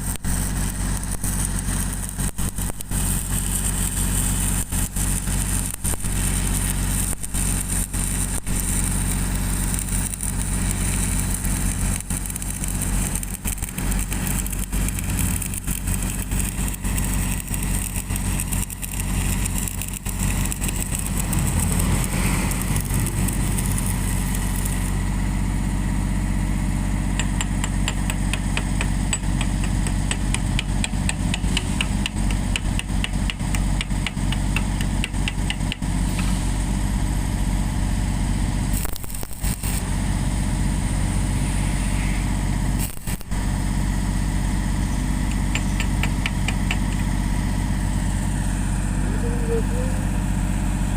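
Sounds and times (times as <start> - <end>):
welding arc crackling hiss: 0.0 - 25.5, 26.2 - 49.9
welding generator engine running: 0.0 - 50.9.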